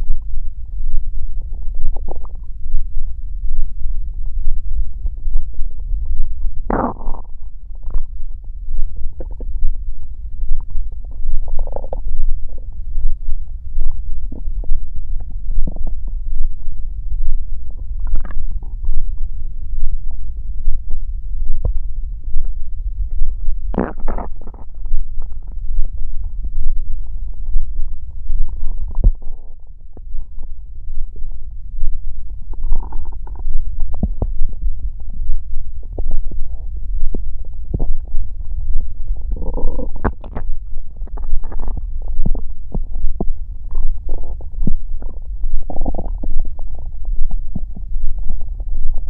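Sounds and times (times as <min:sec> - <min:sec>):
stomach growling and gurgling: 0:00.0 - 0:49.0.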